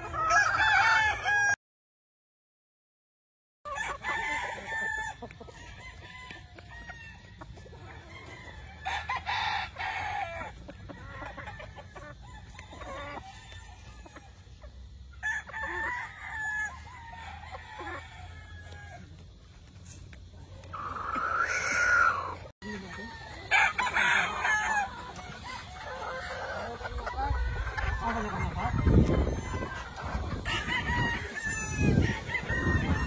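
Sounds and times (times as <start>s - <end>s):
roosters crowing: 0.0s - 1.6s, 3.7s - 33.0s
chickens clucking: 3.7s - 33.0s.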